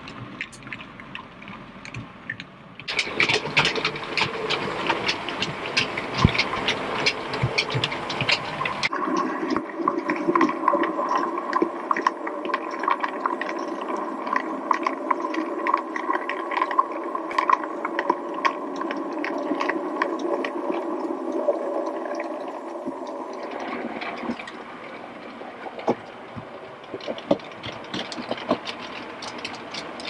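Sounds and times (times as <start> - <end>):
wheels clicking on rails: 0.0 - 30.0.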